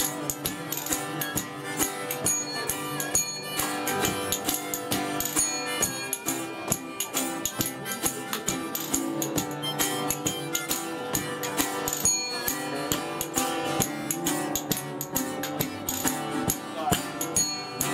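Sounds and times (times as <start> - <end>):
harmonica: 0.0 - 17.9
spoons clacking rhythmically: 0.0 - 17.9
strummed acoustic guitars: 0.0 - 17.9.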